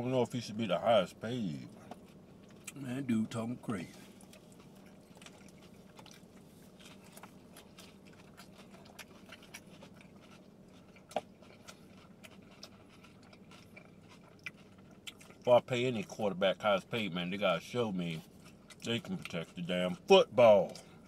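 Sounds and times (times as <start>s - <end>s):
faint steady hum: 0.0s - 21.0s
people chewing: 3.7s - 21.0s.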